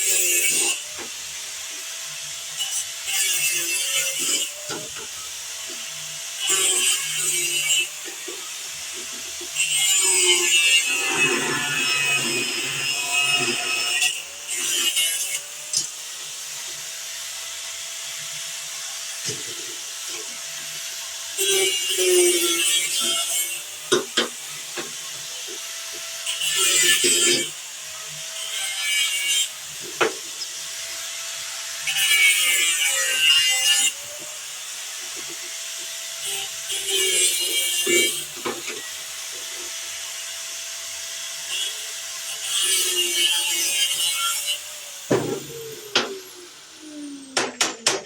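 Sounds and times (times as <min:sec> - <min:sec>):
hand grinder on metal: 0:00.0 - 0:48.0.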